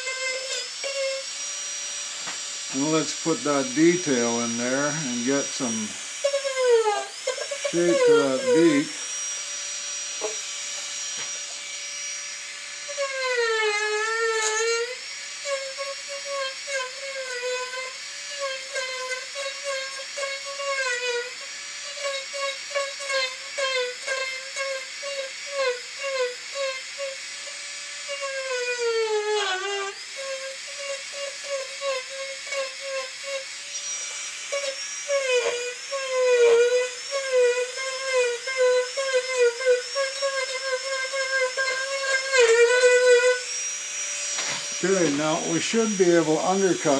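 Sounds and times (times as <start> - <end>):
bit cutting into wood: 0.0 - 46.9
micro motor carving tool whining: 0.0 - 46.9.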